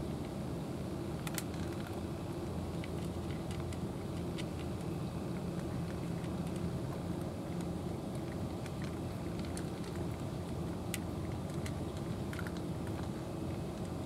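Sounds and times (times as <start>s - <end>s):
low engine hum: 0.0s - 14.0s
cat chewing wet food: 1.1s - 14.0s.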